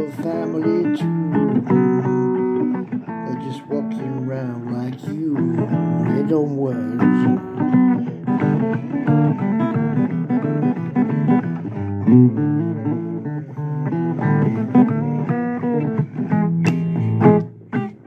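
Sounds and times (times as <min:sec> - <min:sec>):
blues guitar picking: 0:00.0 - 0:18.0.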